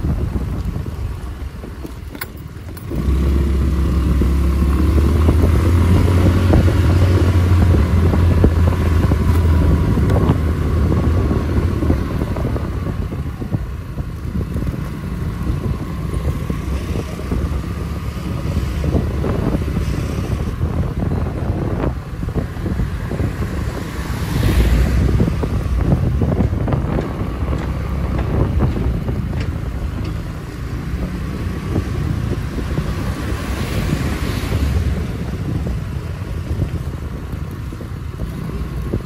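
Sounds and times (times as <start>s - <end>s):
road noise: 0.0s - 39.0s
vehicle engine drone: 0.0s - 39.0s
wind: 0.0s - 39.0s.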